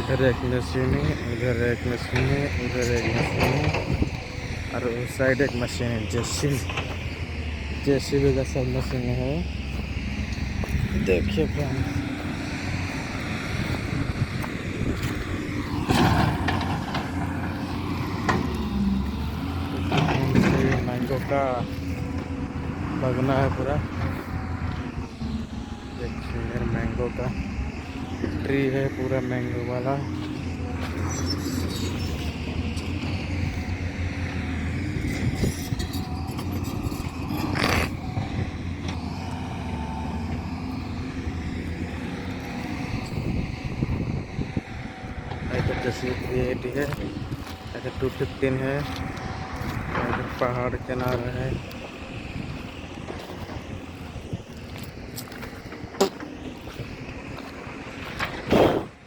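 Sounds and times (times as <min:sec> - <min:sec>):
excavator engines running: 0:00.0 - 0:59.0.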